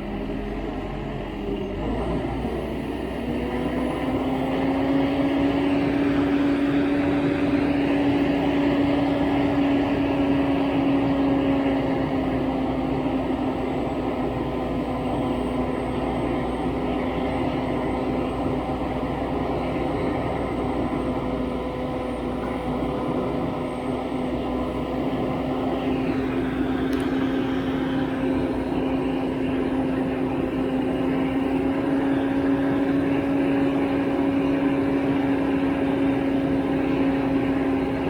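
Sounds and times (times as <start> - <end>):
large vehicle engine droning: 0.0 - 38.0.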